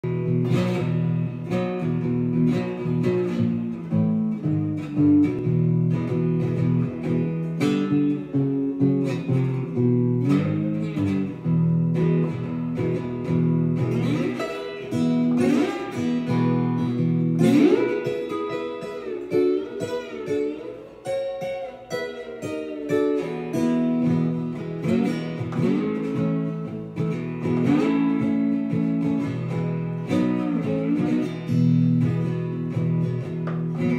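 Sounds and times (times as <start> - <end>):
slide guitar playing blues: 0.0 - 33.9.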